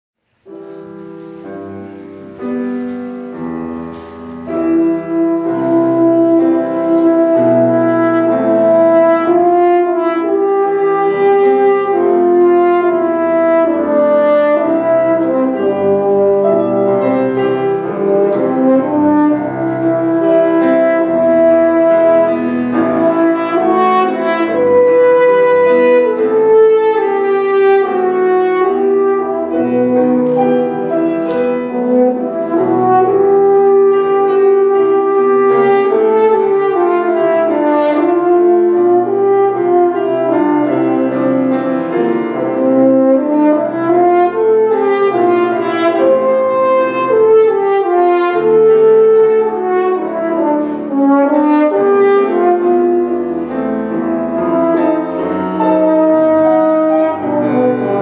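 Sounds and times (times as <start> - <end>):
piano accompaniment: 0.2 - 58.0
french horn melody: 0.4 - 58.0.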